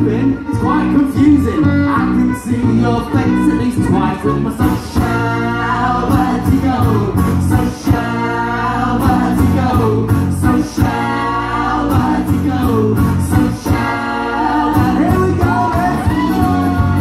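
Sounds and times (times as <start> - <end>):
guitar: 0.0 - 17.0.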